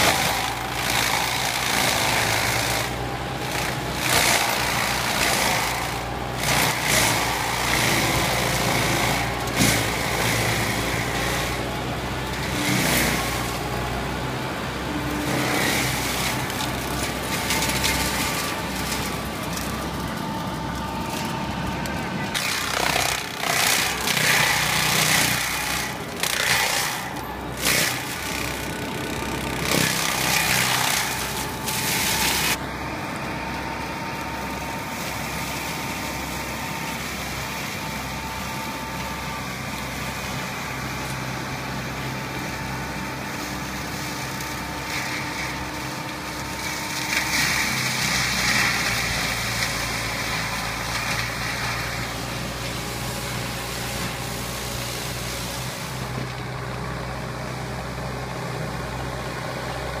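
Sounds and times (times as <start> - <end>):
mulcher shredding brush: 0.0 - 60.0
tractor diesel engine running: 0.0 - 60.0.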